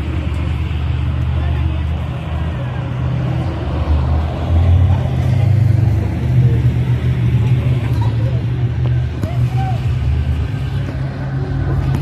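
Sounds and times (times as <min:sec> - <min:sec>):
large vehicle engine rumbling: 0:00.0 - 0:12.0.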